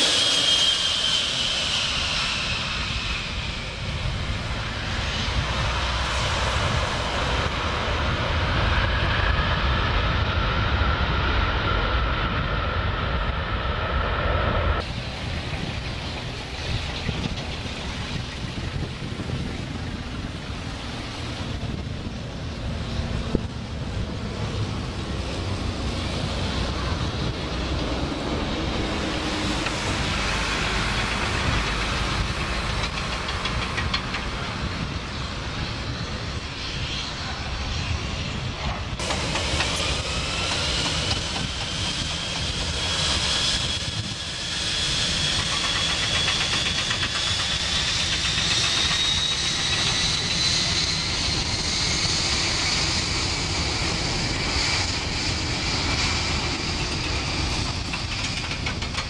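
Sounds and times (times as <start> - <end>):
jet engines hissing and whining: 0.0 - 59.0
twin piston engines and propellers: 0.0 - 59.0.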